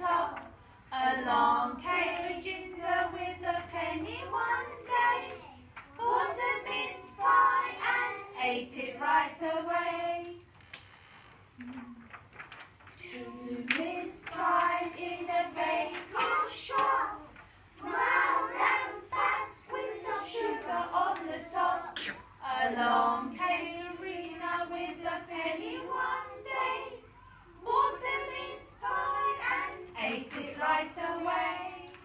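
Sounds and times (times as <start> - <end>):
children singing together: 0.0 - 10.3, 13.1 - 32.0.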